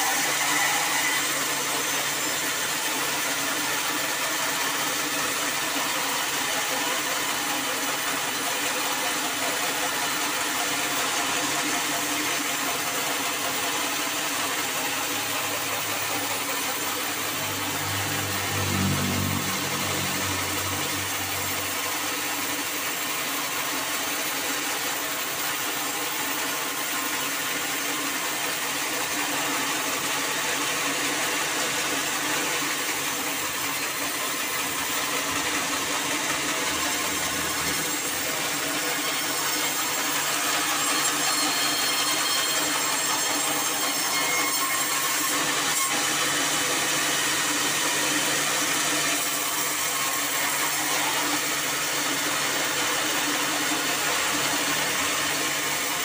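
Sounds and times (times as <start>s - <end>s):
band saw grinding through log: 0.0s - 56.0s.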